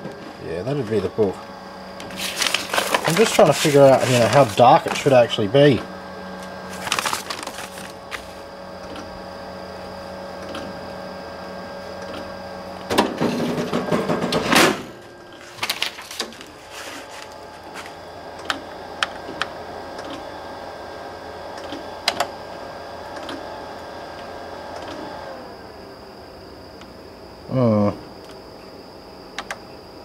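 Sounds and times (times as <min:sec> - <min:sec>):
photocopier humming: 0:00.0 - 0:30.0.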